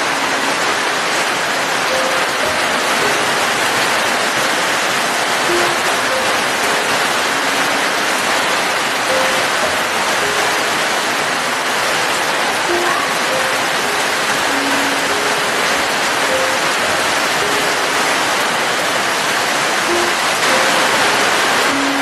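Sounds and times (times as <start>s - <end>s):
dense rainfall hiss: 0.0s - 22.0s.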